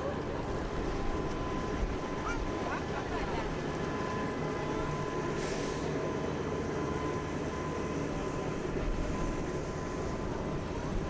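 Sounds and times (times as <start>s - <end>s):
heavy vehicle engines rumbling: 0.0s - 11.0s
thin steady whine: 0.0s - 11.0s.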